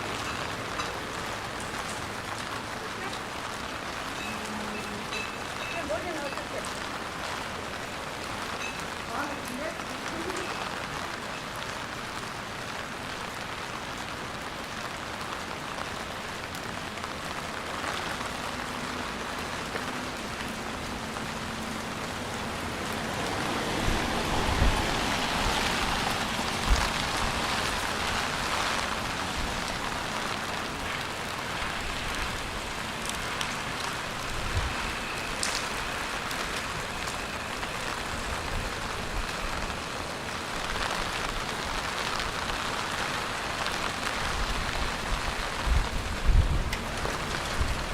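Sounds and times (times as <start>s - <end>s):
rain spattering on wet surfaces: 0.0s - 47.9s.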